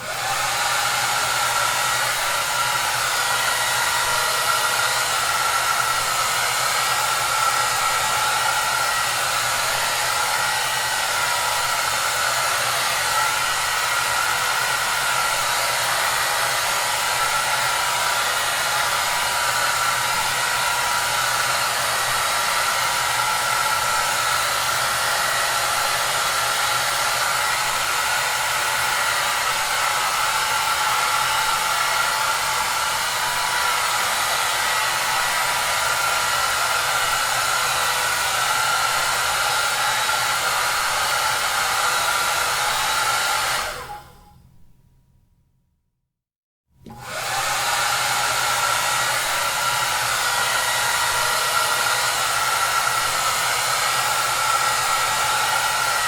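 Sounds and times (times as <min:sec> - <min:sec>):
hair dryer running: 0:00.0 - 0:44.3, 0:46.8 - 0:56.0.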